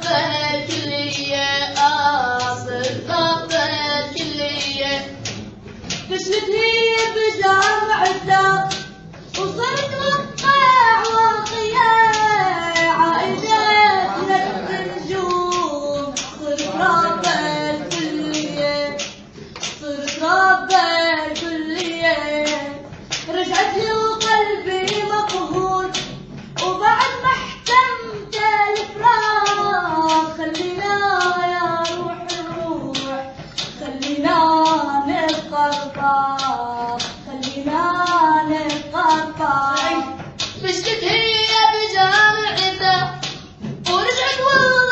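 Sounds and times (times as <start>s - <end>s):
hand claps: 0.0s - 44.9s
young voice singing: 0.0s - 44.9s.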